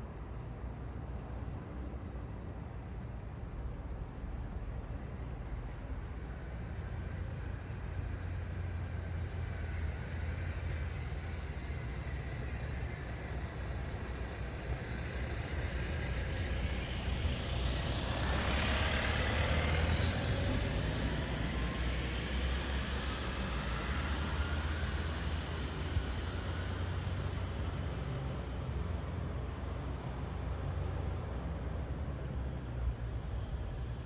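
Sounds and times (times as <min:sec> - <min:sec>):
low rumble of traffic: 0:00.0 - 0:34.0.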